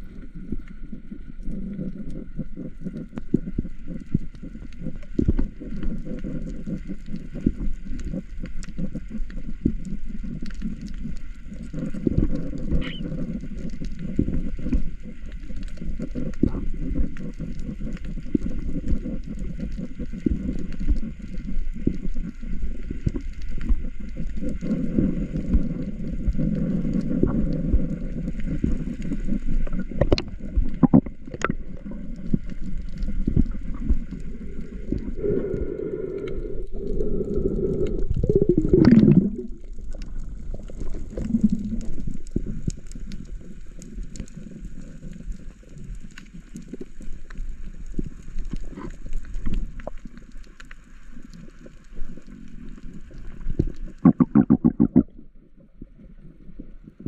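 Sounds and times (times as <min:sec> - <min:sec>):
water churning and gurgling: 0:00.0 - 0:57.0.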